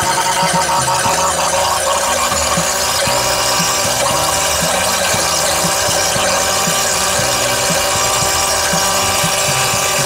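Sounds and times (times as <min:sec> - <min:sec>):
hand pump strokes: 0:00.0 - 0:10.0
loud mechanical running noise: 0:00.0 - 0:10.0.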